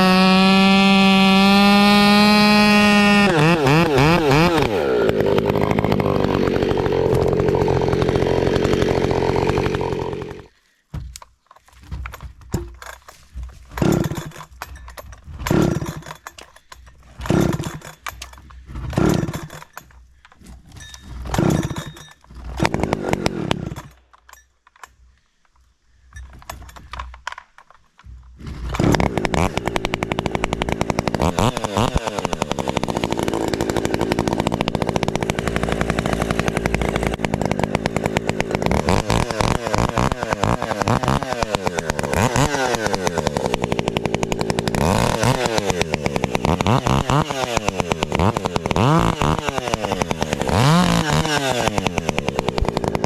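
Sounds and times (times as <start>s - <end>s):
chainsaw revving: 0.0s - 11.1s, 12.0s - 24.0s, 28.1s - 53.0s.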